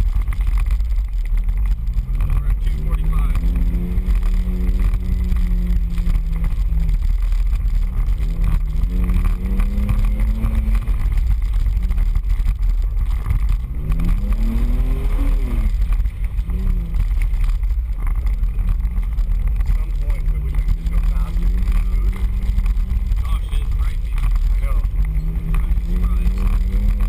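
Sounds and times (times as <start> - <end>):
off-road vehicle engine revving: 0.0 - 27.0.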